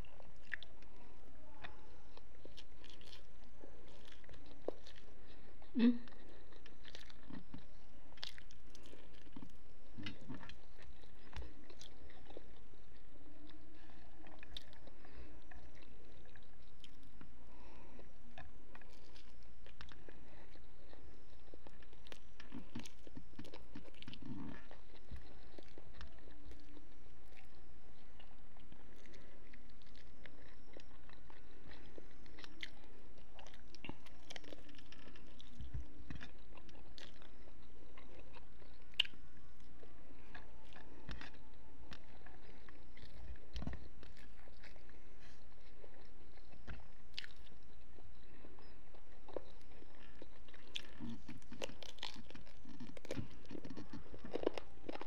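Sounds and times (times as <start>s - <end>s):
mouth clicks and crunches: 0.0s - 55.0s
person chewing food: 0.0s - 55.0s.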